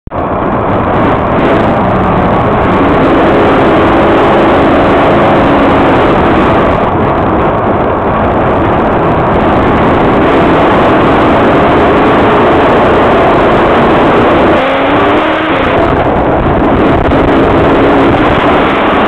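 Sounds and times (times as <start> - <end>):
race car engine running: 0.1 - 19.0.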